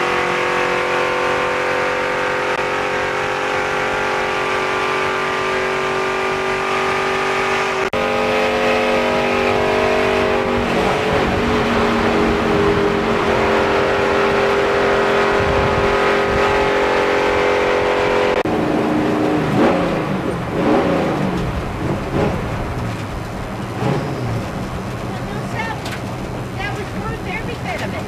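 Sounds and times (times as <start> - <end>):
race car engine at high revs: 0.0 - 28.0.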